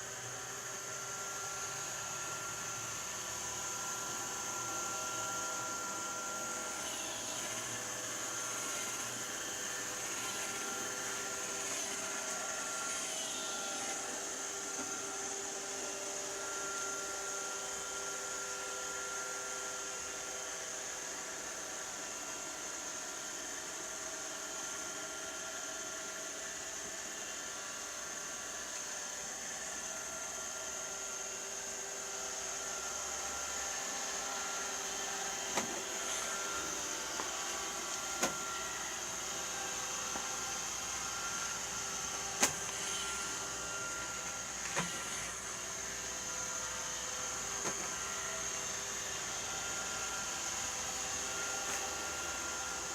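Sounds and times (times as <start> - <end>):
robot vacuum cleaner whirring: 0.0 - 52.9.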